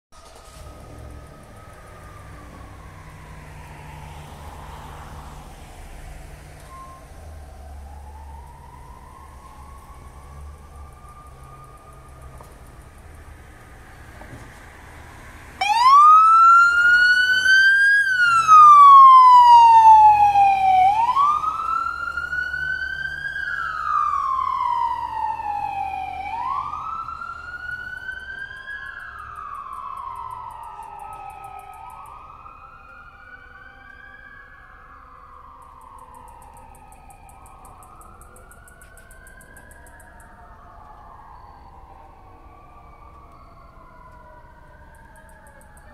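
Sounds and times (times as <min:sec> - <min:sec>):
siren wailing: 0:00.2 - 0:45.9.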